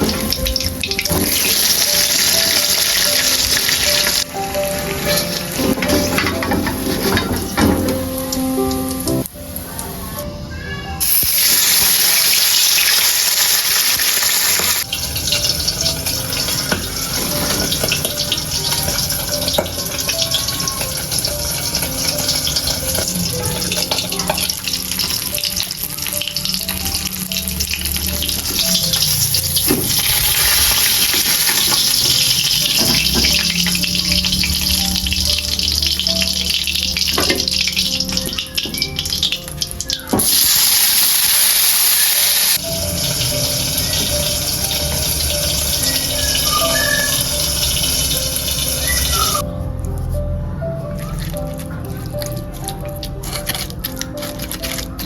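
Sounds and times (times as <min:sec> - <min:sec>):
soft background music: 0:00.0 - 0:55.0.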